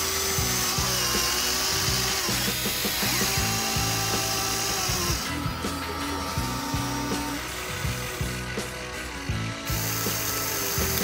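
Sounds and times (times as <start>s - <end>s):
background music: 0.0s - 11.0s
small motor whining: 0.0s - 11.0s.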